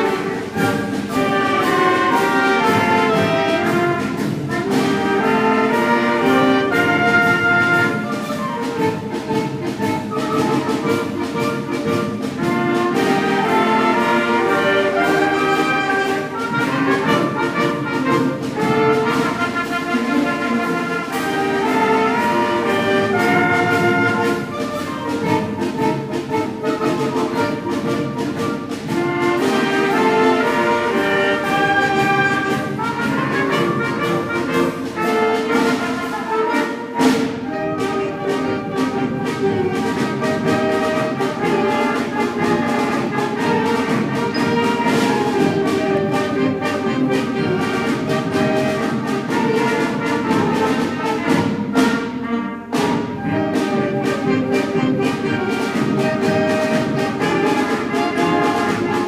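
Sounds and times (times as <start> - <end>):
concert band playing a march: 0.0 - 59.0.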